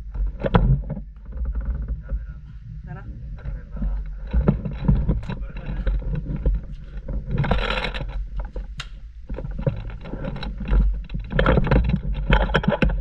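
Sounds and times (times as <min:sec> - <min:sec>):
rumbling on microphone: 0:00.0 - 0:13.0
rustling and clicking: 0:00.0 - 0:13.0.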